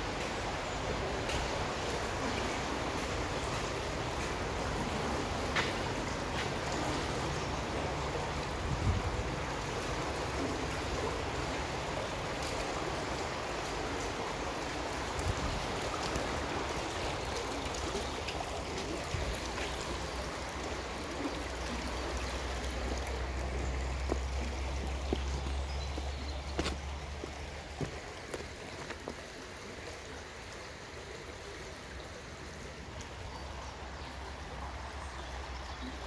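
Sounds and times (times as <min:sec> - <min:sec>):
brook water trickling: 0:00.0 - 0:36.0.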